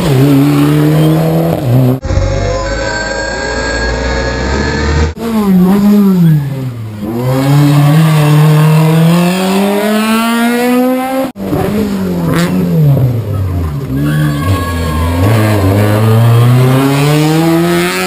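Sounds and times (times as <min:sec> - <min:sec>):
rally car engine revving: 0:00.0 - 0:02.4, 0:04.0 - 0:18.0.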